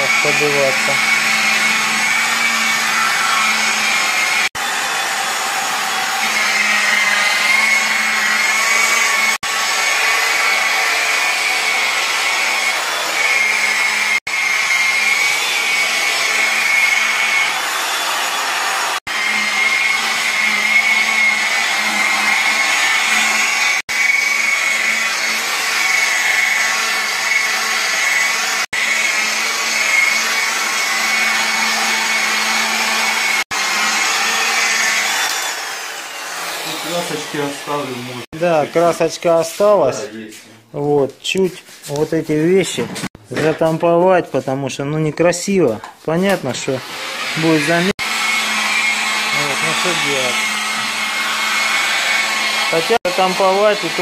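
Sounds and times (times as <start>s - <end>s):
electric car polisher running: 0.0s - 39.2s, 46.6s - 54.0s.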